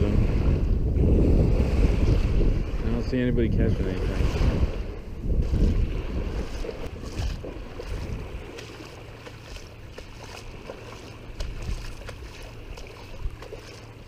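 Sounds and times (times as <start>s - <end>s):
distant motorboat engine drone: 0.0s - 14.0s
wind rumbling on microphone: 0.0s - 14.0s.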